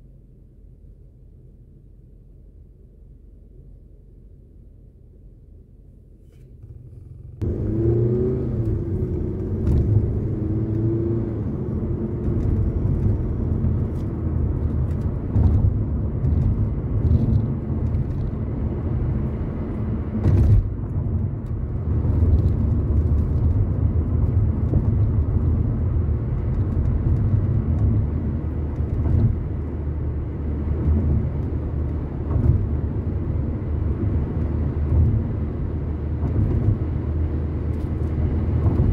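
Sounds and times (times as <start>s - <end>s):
road and engine rumble in car: 0.0s - 38.9s.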